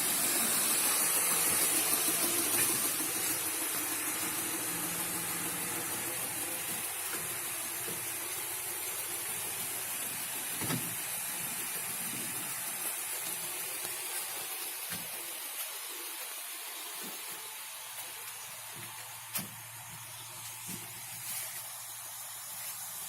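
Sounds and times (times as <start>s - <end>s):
van running noise hiss: 0.0s - 23.0s.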